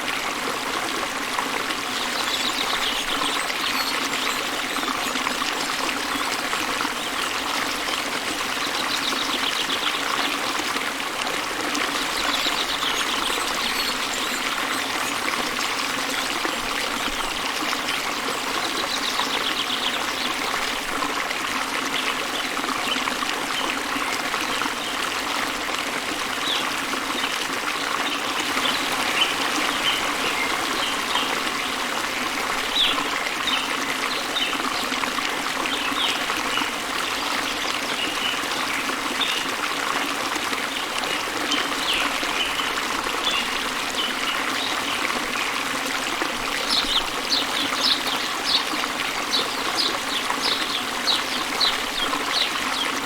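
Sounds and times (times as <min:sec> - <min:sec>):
waterfall running water: 0:00.0 - 0:53.0.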